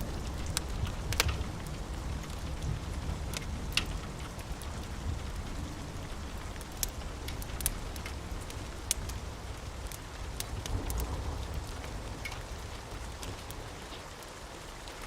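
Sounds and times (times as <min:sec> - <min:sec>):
steady rain: 0:00.0 - 0:15.0
wood fire crackling and popping: 0:00.0 - 0:15.0.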